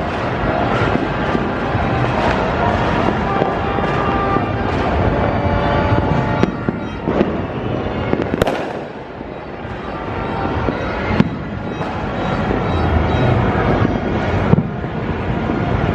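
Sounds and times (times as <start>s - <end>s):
firework bangs: 0.0s - 15.9s
fireworks crackling: 0.0s - 15.9s.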